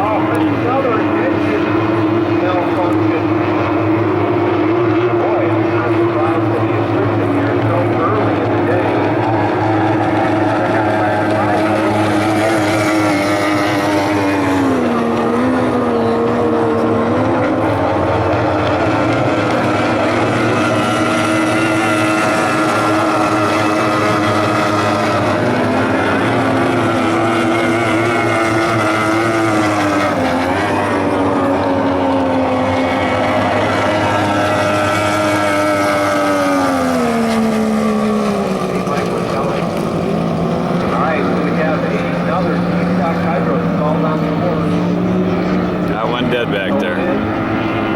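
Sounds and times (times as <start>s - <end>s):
racing outboard boat engines: 0.0s - 47.9s.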